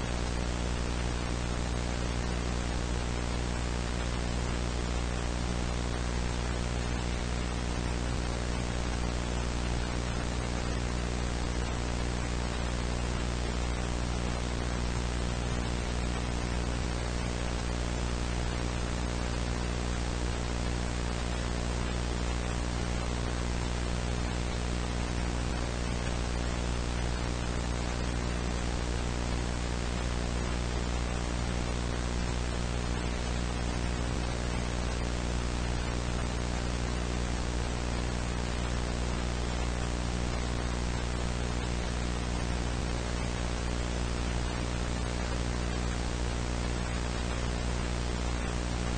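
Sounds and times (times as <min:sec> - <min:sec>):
low buzzing hum: 0:00.0 - 0:48.9
static hiss: 0:00.0 - 0:48.9.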